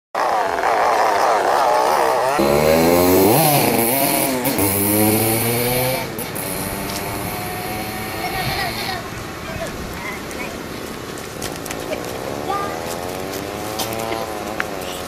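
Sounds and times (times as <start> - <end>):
engine revving with rasping buzz: 0.2 - 9.3, 11.7 - 15.0.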